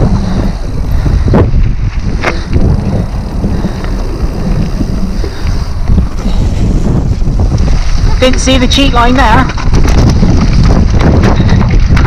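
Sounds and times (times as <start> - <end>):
tyres rumbling on rocky trail: 0.0 - 12.0
wind buffeting microphone: 0.0 - 12.0.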